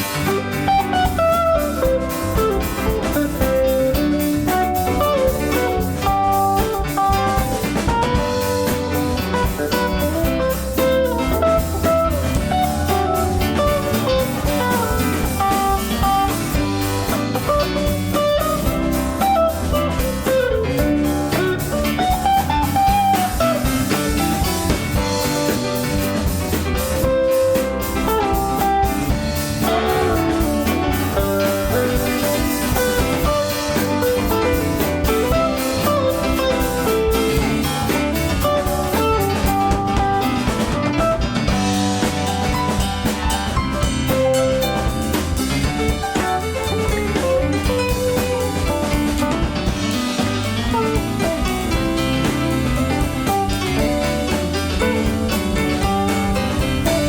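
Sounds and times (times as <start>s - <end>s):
lead guitar solo: 0.0s - 57.0s
live band playing: 0.0s - 57.0s.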